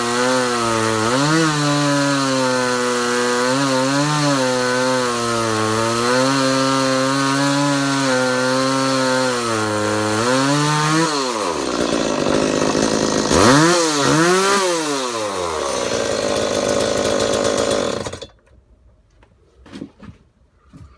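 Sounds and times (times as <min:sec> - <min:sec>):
chainsaw cutting wood: 0:00.0 - 0:18.5.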